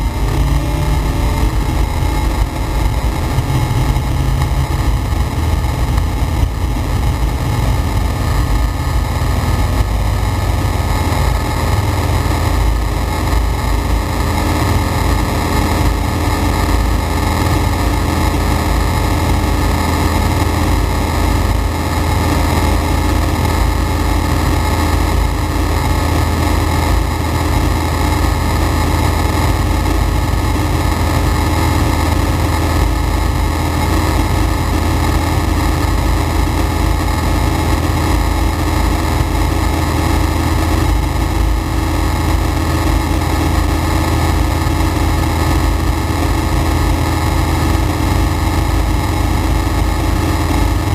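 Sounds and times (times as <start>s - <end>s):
light aircraft engine droning: 0.0s - 50.9s.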